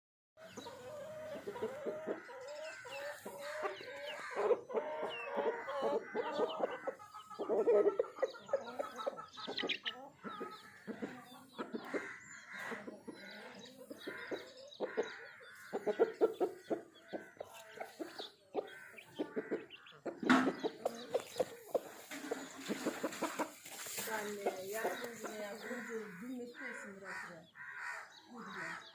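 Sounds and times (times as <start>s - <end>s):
chickens clucking: 0.4s - 28.9s.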